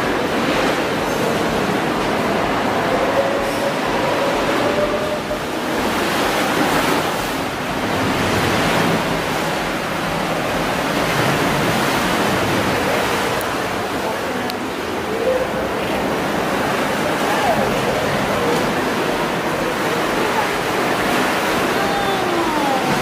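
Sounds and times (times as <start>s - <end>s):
sea waves surging in a cave: 0.0s - 23.0s.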